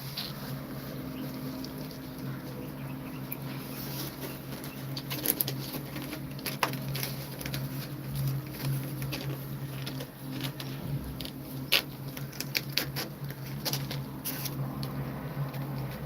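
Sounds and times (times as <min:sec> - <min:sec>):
cats moving about rustling: 0:00.0 - 0:16.0
steady low hum: 0:00.0 - 0:16.0.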